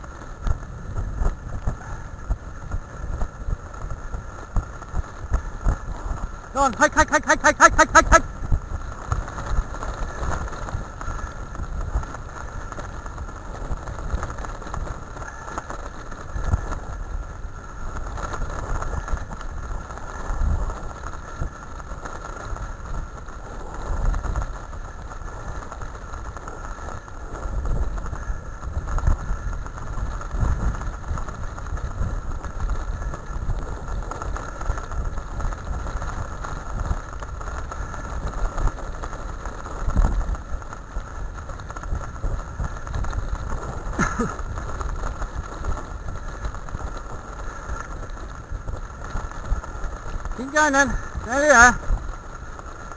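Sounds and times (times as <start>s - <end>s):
wheels rolling over gravel: 0.0s - 52.9s
wind on microphone: 0.0s - 52.9s.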